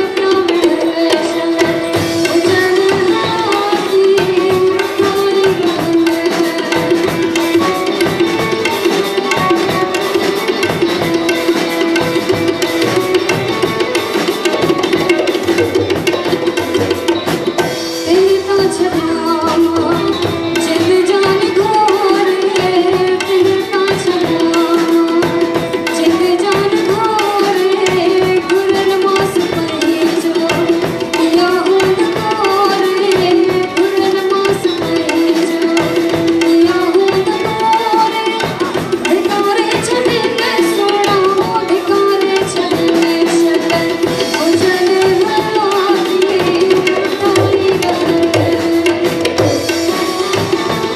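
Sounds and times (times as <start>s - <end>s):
tabla playing: 0.0s - 50.9s
woman singing into microphone: 0.0s - 50.9s.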